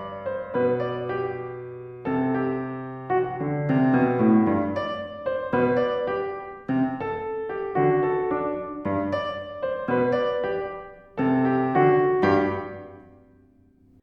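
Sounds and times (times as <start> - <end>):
solo piano: 0.0 - 14.0.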